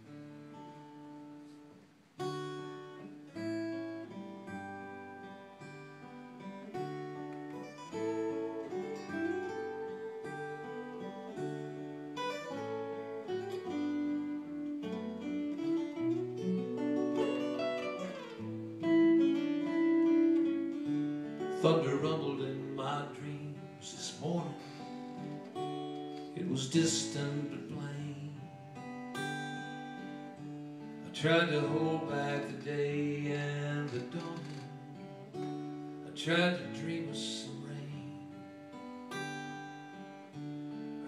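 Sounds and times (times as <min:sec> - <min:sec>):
acoustic guitar chords: 0:00.0 - 0:41.0
lead guitar melody: 0:00.0 - 0:41.0.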